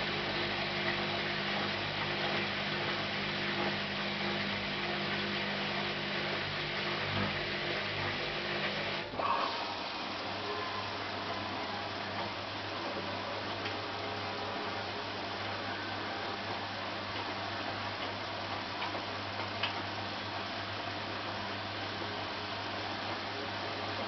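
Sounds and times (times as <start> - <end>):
rush of wash water: 0.0 - 24.0
washing machine drum humming: 0.0 - 24.0.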